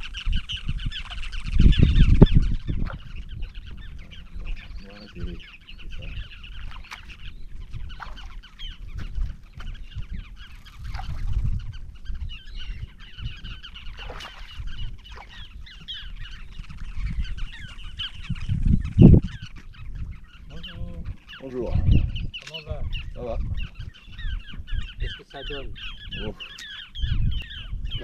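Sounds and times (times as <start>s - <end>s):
many birds chattering: 0.0s - 28.0s.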